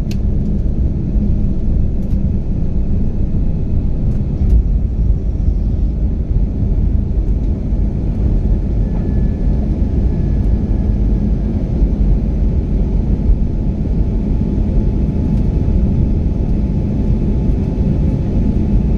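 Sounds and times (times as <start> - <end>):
jet cabin engine rumble: 0.0 - 18.9.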